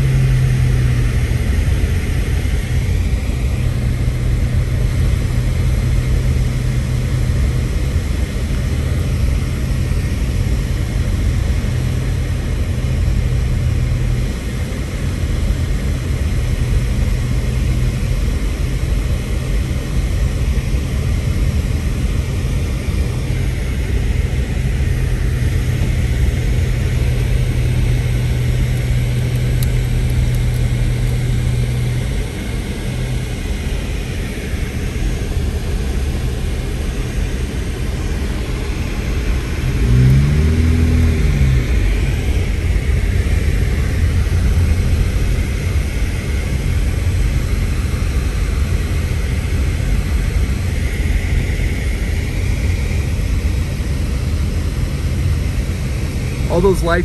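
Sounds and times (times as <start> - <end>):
car engine and tyre hum: 0.0 - 57.0.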